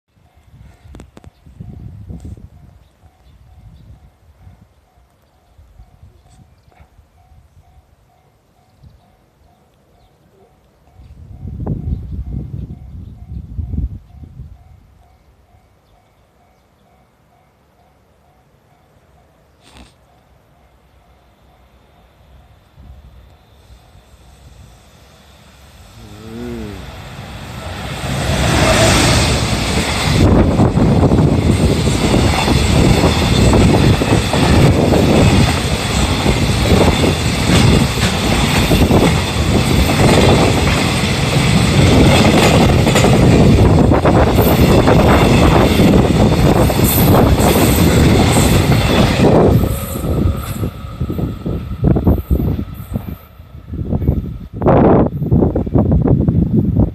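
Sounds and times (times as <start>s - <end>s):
freight train passing: 0.1s - 56.9s.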